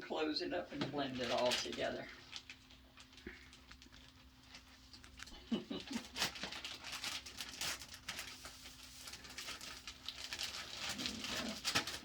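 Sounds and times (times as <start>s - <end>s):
plastic bag rustling: 0.6s - 12.0s.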